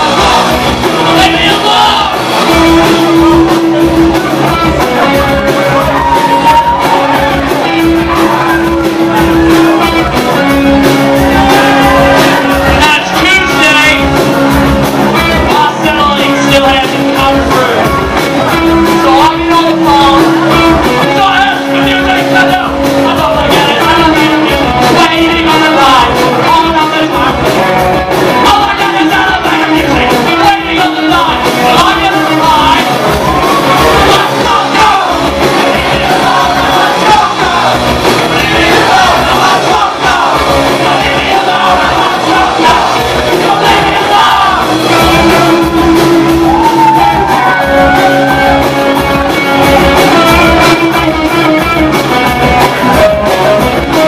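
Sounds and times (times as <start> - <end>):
person singing: 0.0 - 14.2, 15.1 - 54.0
drums: 0.0 - 54.0
electric guitars: 0.0 - 54.0.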